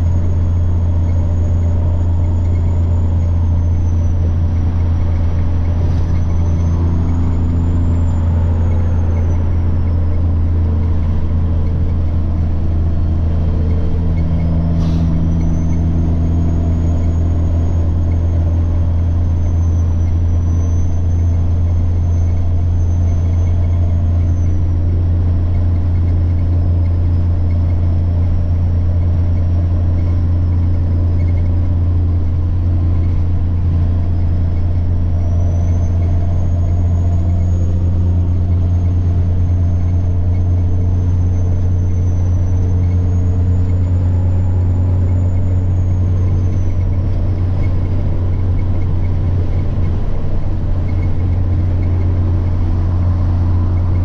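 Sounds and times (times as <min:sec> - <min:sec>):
truck diesel engine droning: 0:00.0 - 0:54.0
turbocharger whine: 0:00.0 - 0:54.0.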